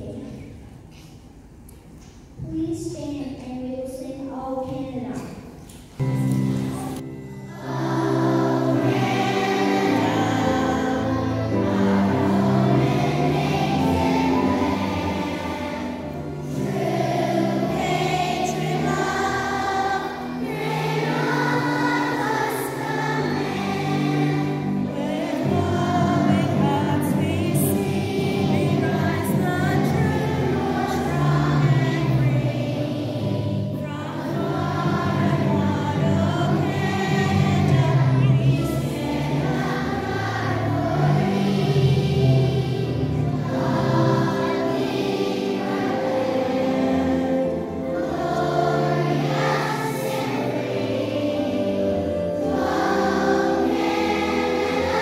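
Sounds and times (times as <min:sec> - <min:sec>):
instrumental backing music: 0:04.8 - 0:55.0
choir singing: 0:06.0 - 0:55.0.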